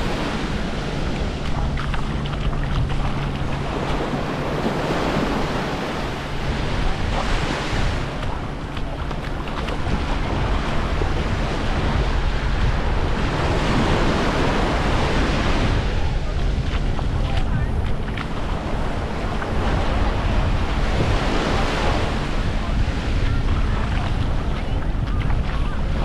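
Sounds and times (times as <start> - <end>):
low steady drone: 0.0 - 26.0
waves washing onto beach: 0.0 - 26.0
wind buffeting microphone: 0.0 - 26.0.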